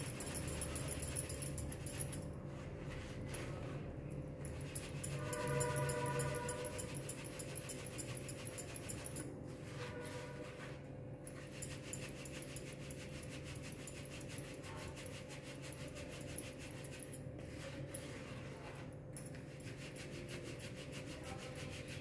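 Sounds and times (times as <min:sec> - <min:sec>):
flour sifting through sieve: 0:00.0 - 0:22.0.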